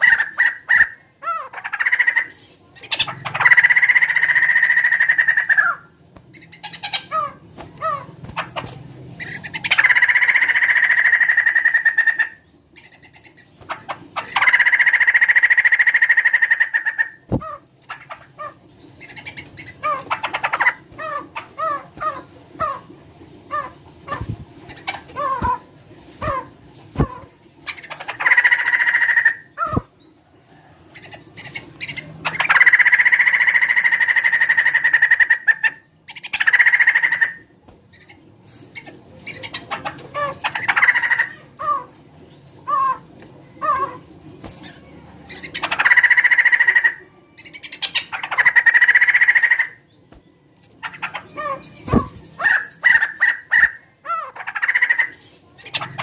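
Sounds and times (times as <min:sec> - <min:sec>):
laughingthrush singing: 0:00.0 - 0:56.0.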